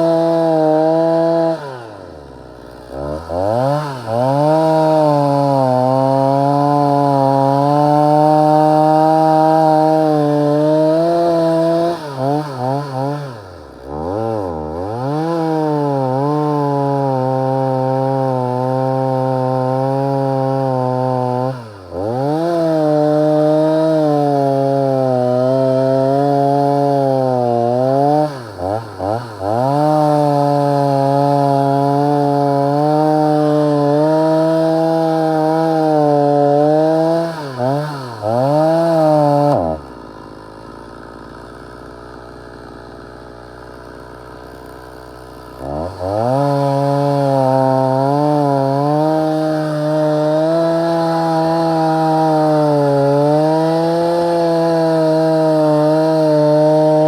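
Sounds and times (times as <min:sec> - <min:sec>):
chainsaw cutting dry wood: 0:00.0 - 0:57.0.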